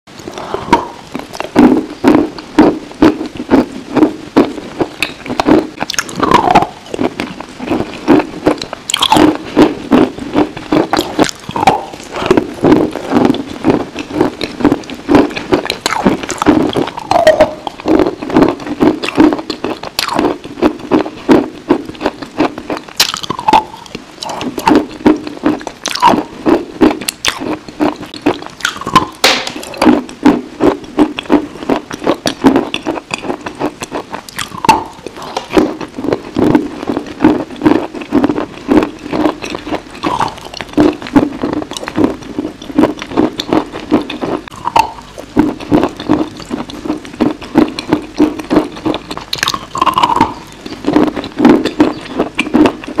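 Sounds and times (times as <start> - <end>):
crunchy chewing: 0.2 - 53.0.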